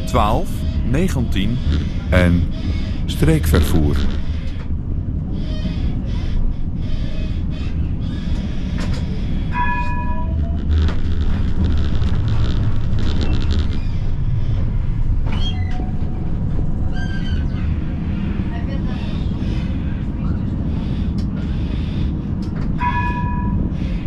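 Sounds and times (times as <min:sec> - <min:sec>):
tram rumbling over rails: 0:00.0 - 0:24.0.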